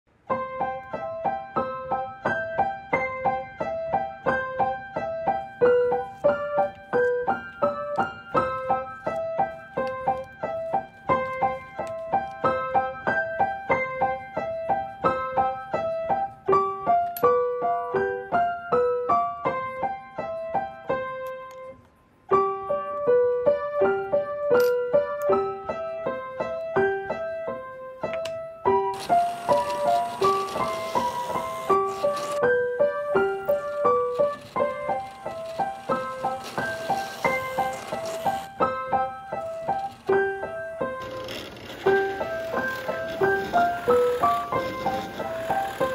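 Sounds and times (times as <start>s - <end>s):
light piano music: 0.1s - 45.9s.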